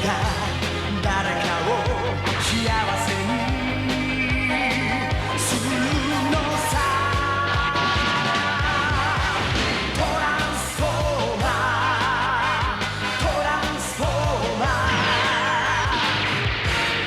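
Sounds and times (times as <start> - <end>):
steady drum beat: 0.0 - 17.0
upbeat rock music: 0.0 - 17.0.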